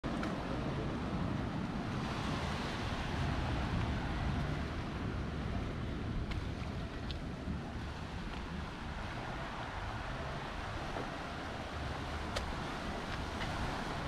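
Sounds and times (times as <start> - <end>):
wind buffeting microphone: 0.0 - 14.0
sea surf rushing: 0.1 - 14.0.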